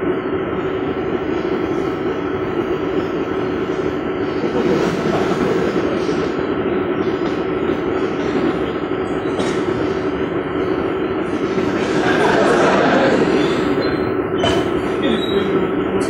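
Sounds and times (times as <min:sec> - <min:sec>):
steady rumbling with low hum: 0:00.0 - 0:16.0.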